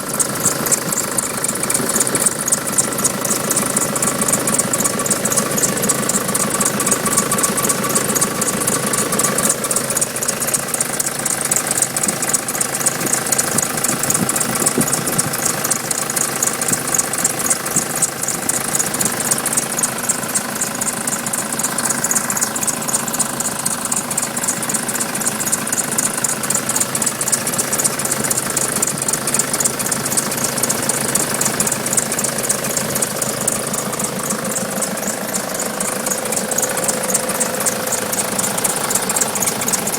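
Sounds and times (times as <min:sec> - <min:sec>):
diesel engine idling: 0:00.0 - 0:39.9
high squeaking from engine bay: 0:00.0 - 0:39.9.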